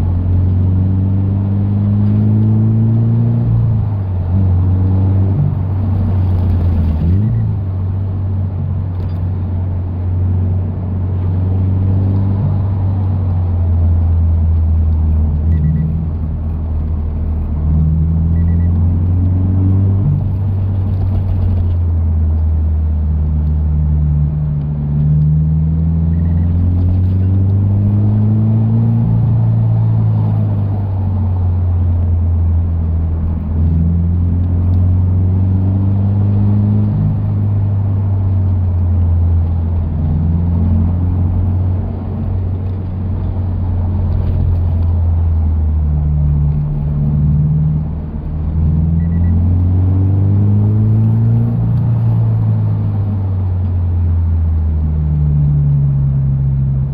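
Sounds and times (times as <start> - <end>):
car engine droning: 0.0 - 56.9.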